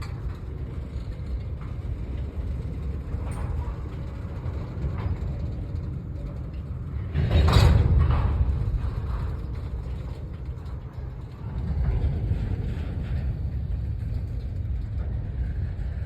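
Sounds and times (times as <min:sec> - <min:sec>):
train clicks and knocks: 0:00.0 - 0:16.0
train rumbling past: 0:00.0 - 0:16.0.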